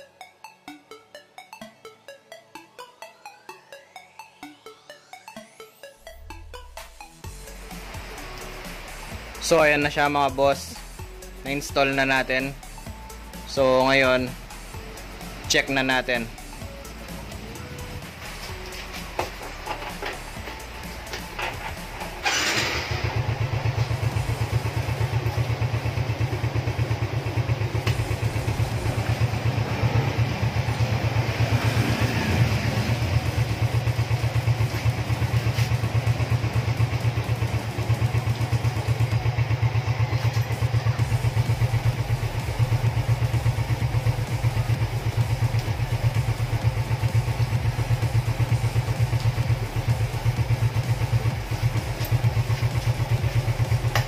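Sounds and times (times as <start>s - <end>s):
motorcycle engine idling: 7.3s - 54.0s.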